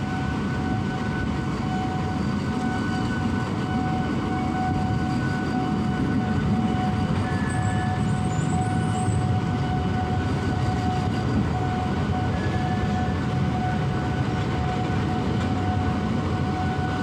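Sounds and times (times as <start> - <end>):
constant whine: 0.0 - 17.0
train wheels rumbling on rails: 0.0 - 17.0
faint high squeals: 0.1 - 14.1.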